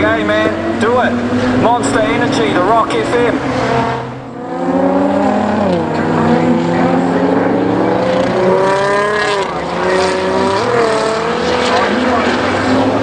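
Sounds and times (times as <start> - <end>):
car engines passing: 0.0 - 13.0.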